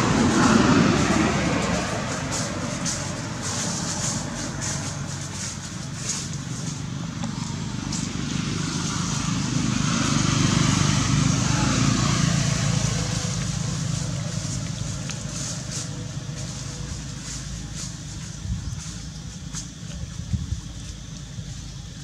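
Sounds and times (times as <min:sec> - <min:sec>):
vehicle passing rumble: 0:00.0 - 0:22.0.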